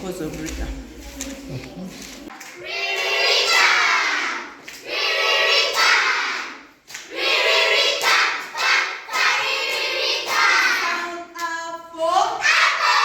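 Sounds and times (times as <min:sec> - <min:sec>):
young children singing a rhyme: 0:00.7 - 0:13.0.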